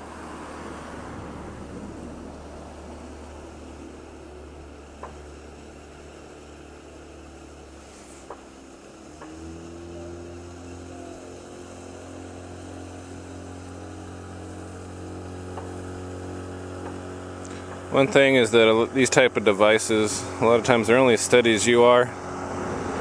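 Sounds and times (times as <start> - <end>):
outboard engine running: 0.0 - 23.0.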